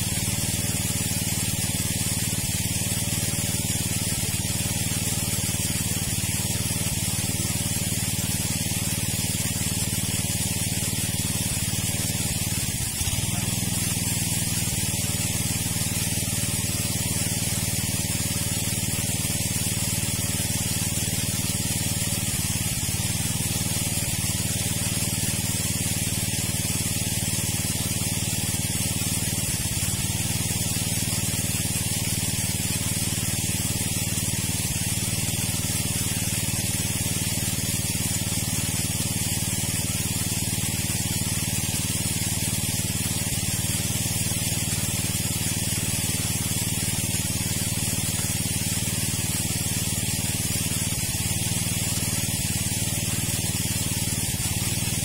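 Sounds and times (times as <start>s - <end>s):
rushing water hiss: 0.0s - 55.0s
water pump engine running: 0.0s - 55.0s.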